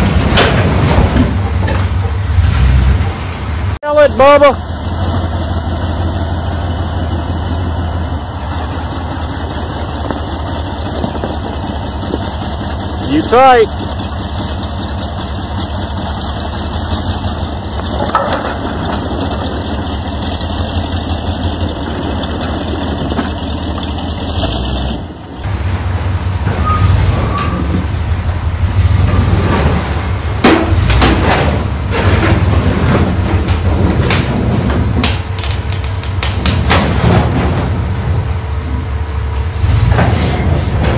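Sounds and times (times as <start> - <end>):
vehicle engine idling: 1.3 - 40.9.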